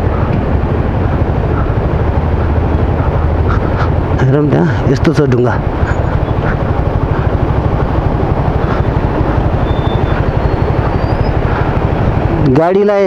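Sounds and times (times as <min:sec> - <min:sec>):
motorcycle engine throbbing: 0:00.0 - 0:13.0
rushing noise: 0:00.0 - 0:13.0.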